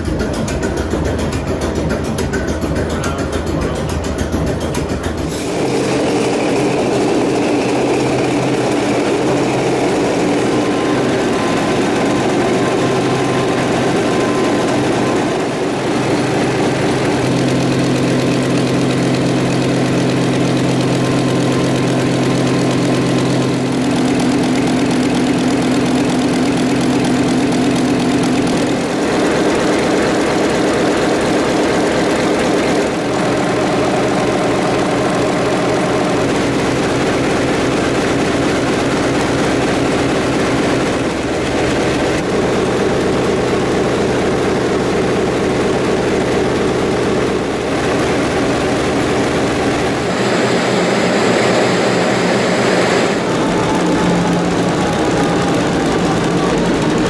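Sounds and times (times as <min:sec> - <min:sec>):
large diesel engine running: 0:00.0 - 0:57.0.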